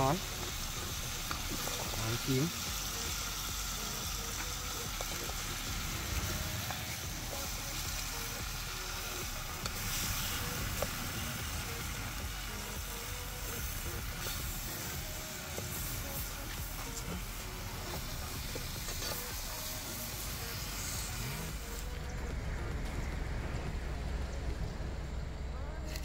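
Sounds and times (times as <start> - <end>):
meat sizzling in a pot: 0.0 - 21.8.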